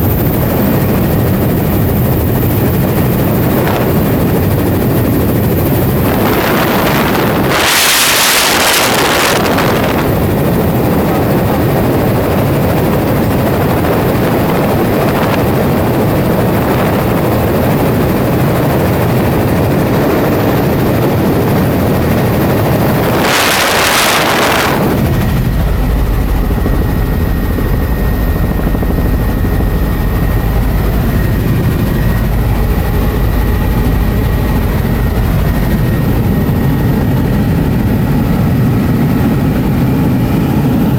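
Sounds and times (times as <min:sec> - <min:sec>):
helicopter cabin noise: 0:00.0 - 0:40.9
rushing wind noise: 0:00.0 - 0:40.9.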